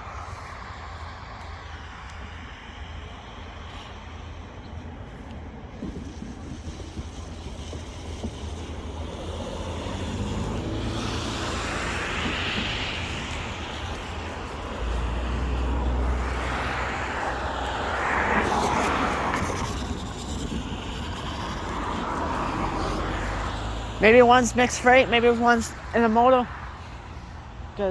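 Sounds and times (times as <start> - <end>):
vehicle noise: 0.0 - 27.9.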